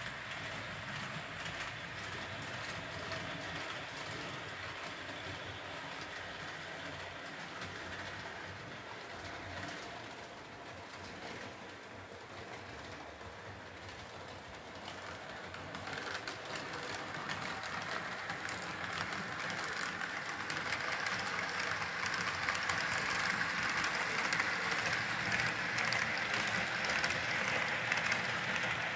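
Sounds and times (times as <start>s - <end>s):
fast clicks over rails: 0.0s - 28.9s
model train wheels and motor whirring: 0.0s - 28.9s.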